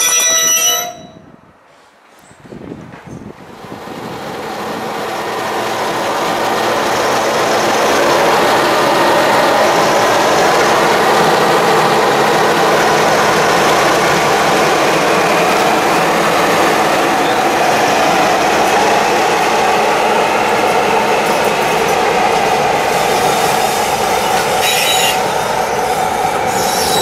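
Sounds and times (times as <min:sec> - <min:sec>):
diesel locomotive engine: 0:00.0 - 0:27.0
coaches rumbling on rails: 0:02.2 - 0:27.0.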